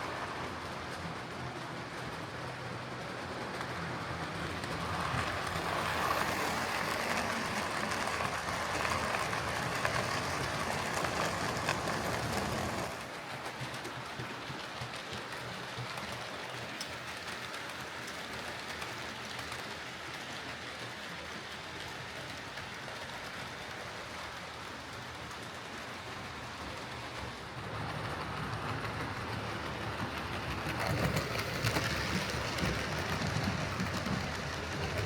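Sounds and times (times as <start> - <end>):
model train whirring on rails: 0.0 - 35.0.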